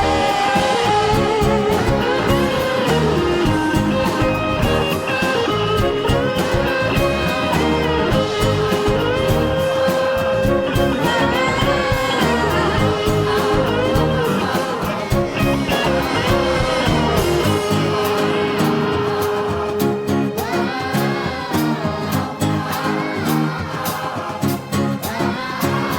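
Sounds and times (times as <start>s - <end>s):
bending lead melody: 0.0s - 23.7s
live band music: 0.0s - 25.9s.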